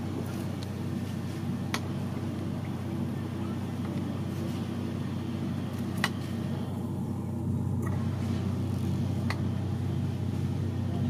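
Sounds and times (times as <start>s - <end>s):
low engine-like drone: 0.0s - 11.0s.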